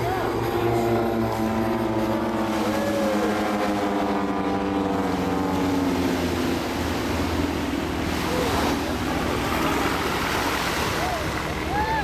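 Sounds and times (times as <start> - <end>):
propeller planes droning overhead: 0.0 - 12.0.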